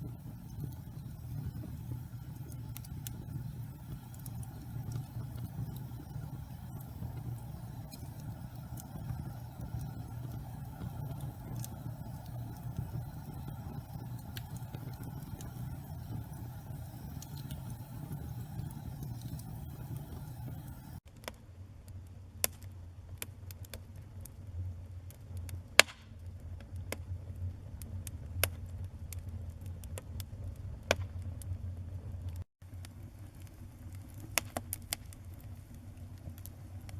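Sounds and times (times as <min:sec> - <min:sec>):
fire crackling and popping: 0:00.0 - 0:21.0, 0:22.4 - 0:36.9
fire rumbling: 0:00.0 - 0:21.0, 0:26.3 - 0:36.9.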